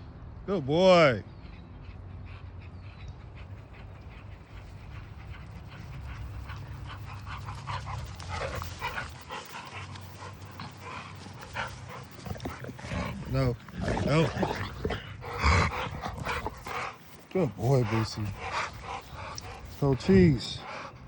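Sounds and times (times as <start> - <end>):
steady low hum: 1.2 - 21.0
dog panting: 1.3 - 21.0
paws scuffing in dry dirt: 1.3 - 21.0.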